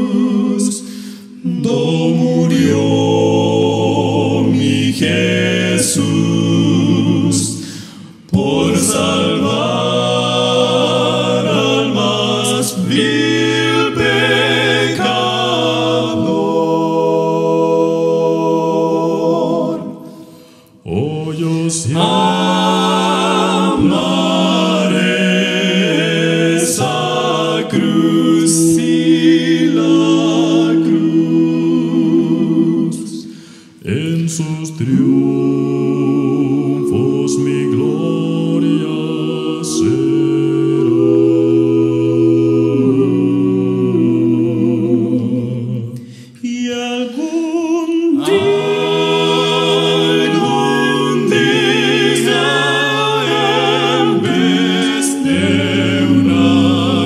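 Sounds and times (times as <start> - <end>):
male vocal quartet singing a hymn: 0.0 - 57.0.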